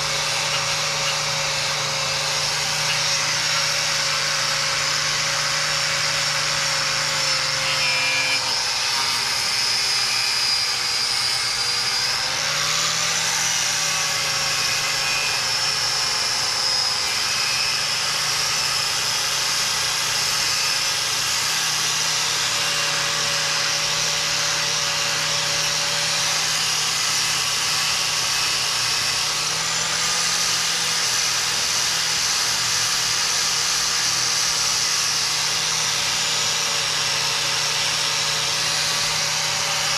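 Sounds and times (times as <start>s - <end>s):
angle grinder wire brush on metal: 0.0s - 39.9s.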